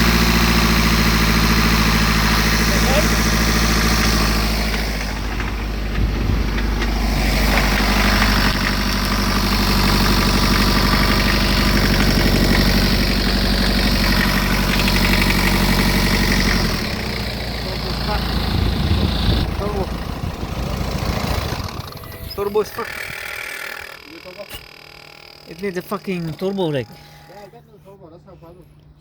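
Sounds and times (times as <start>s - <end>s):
diesel engine running: 0.0s - 28.6s.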